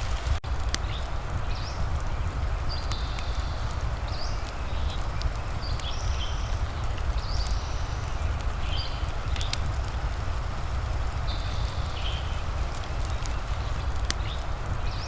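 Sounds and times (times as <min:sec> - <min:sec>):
fireplace crackling: 0:00.0 - 0:15.0
rain: 0:00.0 - 0:15.0.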